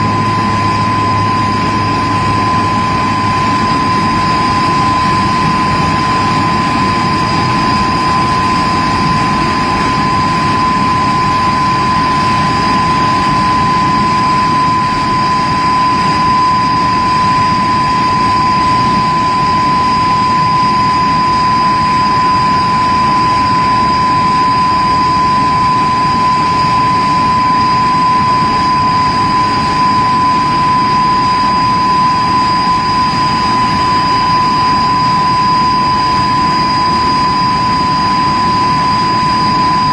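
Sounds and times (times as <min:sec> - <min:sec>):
jet engine rumble and whine: 0:00.0 - 0:39.9.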